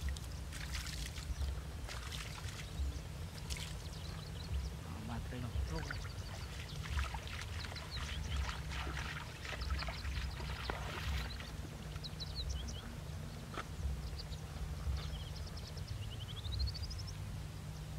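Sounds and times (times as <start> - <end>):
small birds chirping: 0.0 - 17.9
steady low rumble: 0.0 - 17.9.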